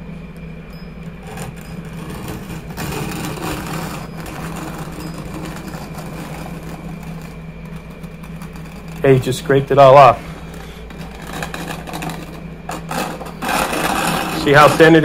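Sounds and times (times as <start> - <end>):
low hum: 0.0 - 15.0
trowel scraping mortar on tile: 1.2 - 9.3, 10.2 - 15.0.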